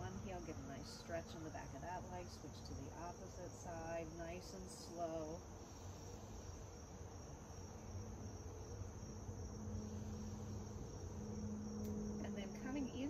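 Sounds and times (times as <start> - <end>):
faint low hum: 0.0 - 13.0
insects chirring: 0.0 - 13.0.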